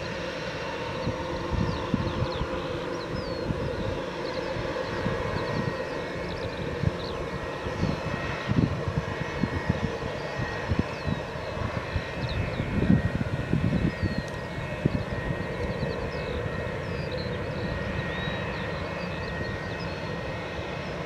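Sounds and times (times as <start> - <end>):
jet engines humming and whining: 0.0 - 21.0.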